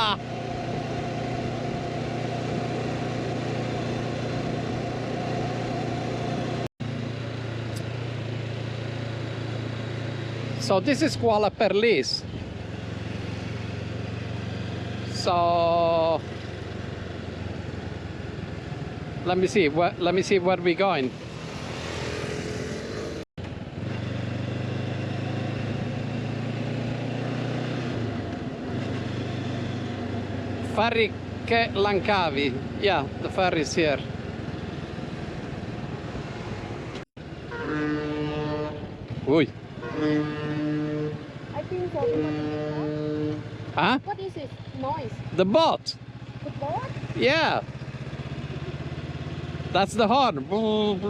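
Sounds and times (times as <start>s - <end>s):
motorcycle engine running: 0.0s - 51.0s
road and wind noise: 0.0s - 51.0s.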